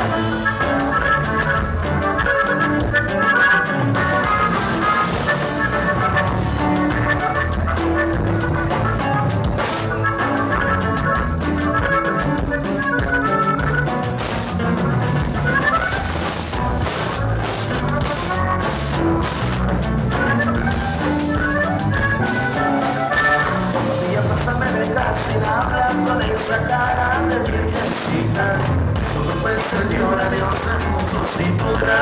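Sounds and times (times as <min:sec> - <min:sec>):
button accordion melody: 0:00.0 - 0:32.0
drum kit with cymbals: 0:00.0 - 0:32.0
electric bass: 0:00.0 - 0:32.0.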